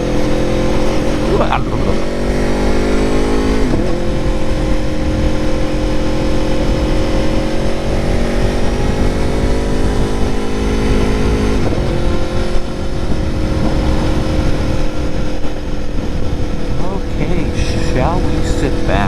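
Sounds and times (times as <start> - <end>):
wind rumble on microphone: 0.0 - 18.4
motorcycle engine running: 0.0 - 19.0.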